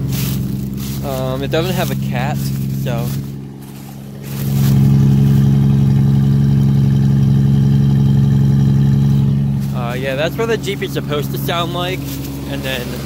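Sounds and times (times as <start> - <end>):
car exhaust running: 0.0 - 13.0.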